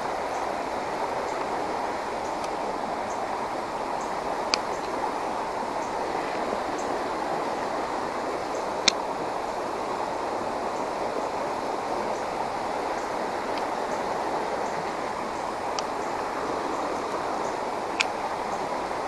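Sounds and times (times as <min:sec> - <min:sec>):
creek water flowing over shallows: 0:00.0 - 0:19.0.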